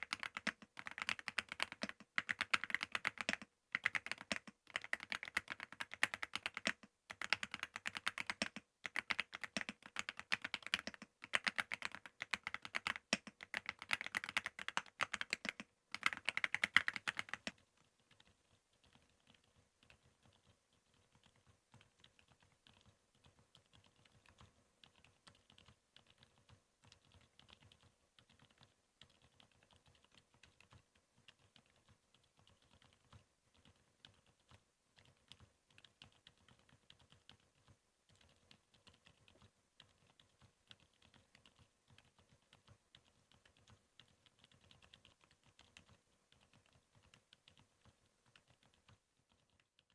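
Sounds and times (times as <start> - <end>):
mechanical keyboard typing: 0.0 - 49.9.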